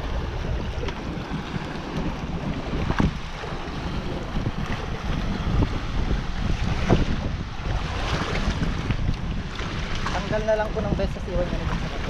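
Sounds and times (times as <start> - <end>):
water rushing past a boat hull: 0.0 - 12.0
wind buffeting microphone: 0.0 - 12.0.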